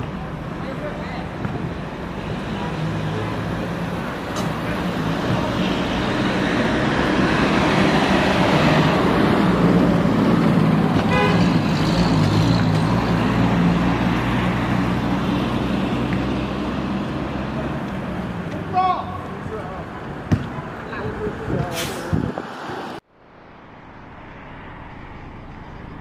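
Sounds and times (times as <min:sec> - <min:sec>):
bus engine running: 0:00.0 - 0:26.0
road noise: 0:00.0 - 0:26.0.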